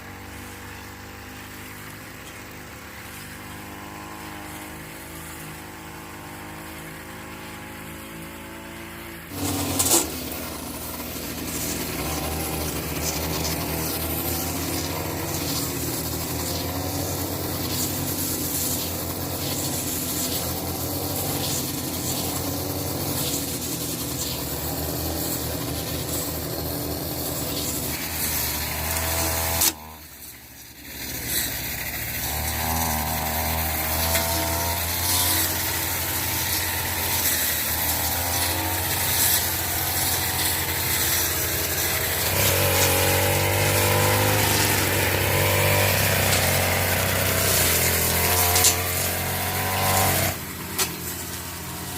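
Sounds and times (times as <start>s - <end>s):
machine engine grinding: 0.0s - 51.9s.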